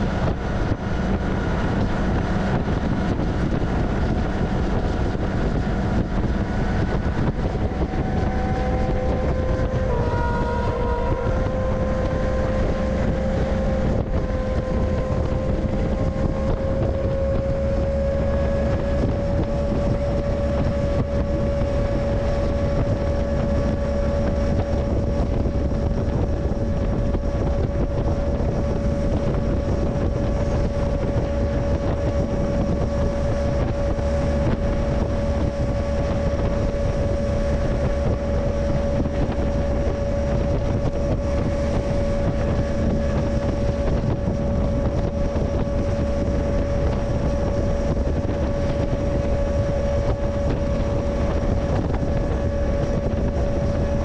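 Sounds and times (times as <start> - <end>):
freight train rumbling: 0.0 - 54.0
steady whine: 0.0 - 54.0
wind buffeting microphone: 0.0 - 54.0.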